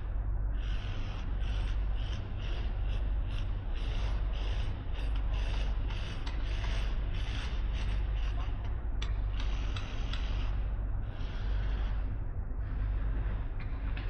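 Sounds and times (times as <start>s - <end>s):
machinery low rumble: 0.0s - 14.0s.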